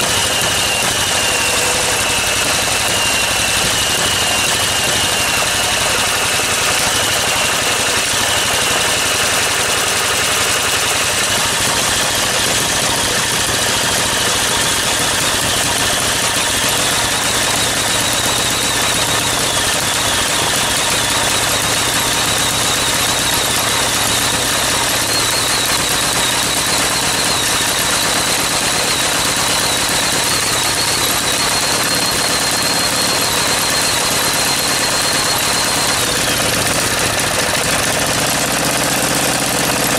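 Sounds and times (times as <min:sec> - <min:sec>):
small engine with high whine: 0:00.0 - 0:39.9.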